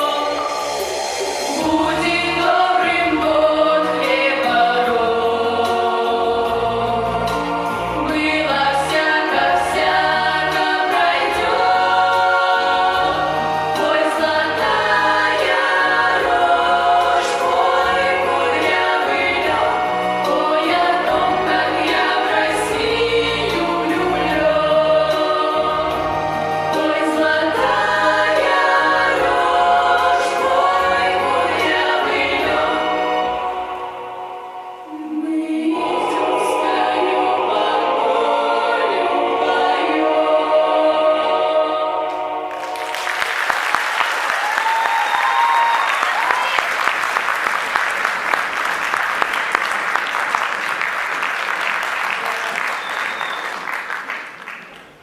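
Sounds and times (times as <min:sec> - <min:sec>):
choir singing: 0:00.0 - 0:46.0
musical accompaniment: 0:00.0 - 0:55.0.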